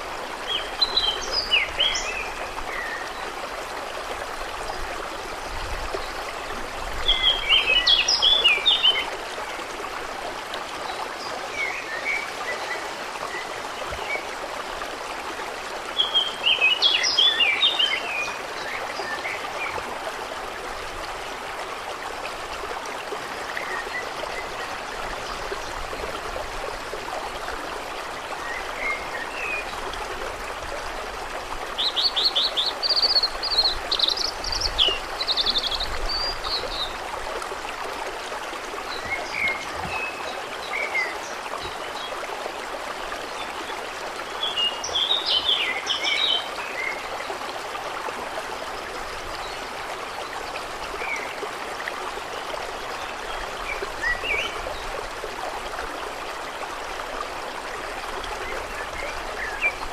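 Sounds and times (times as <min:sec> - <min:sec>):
water trickling and flowing: 0:00.0 - 0:59.9.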